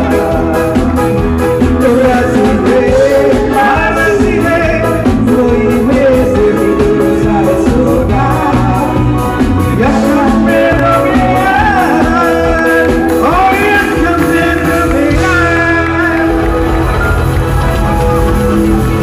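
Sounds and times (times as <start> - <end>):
man singing into a microphone: 0.0 - 16.7
drums with a steady beat: 0.0 - 19.0
live band playing: 0.0 - 19.0.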